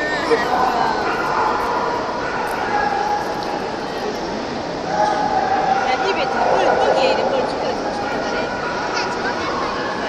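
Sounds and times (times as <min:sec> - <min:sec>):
crowd hubbub in large hall: 0:00.0 - 0:10.0.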